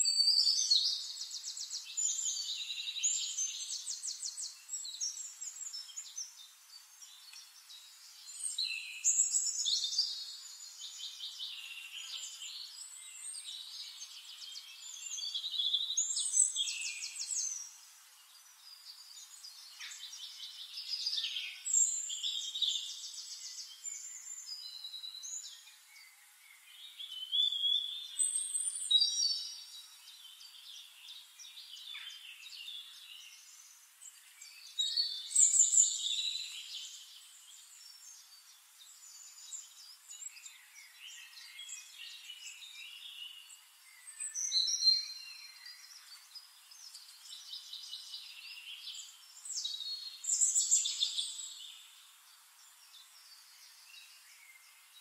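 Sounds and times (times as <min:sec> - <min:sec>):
faint hiss: 0:00.0 - 0:55.0.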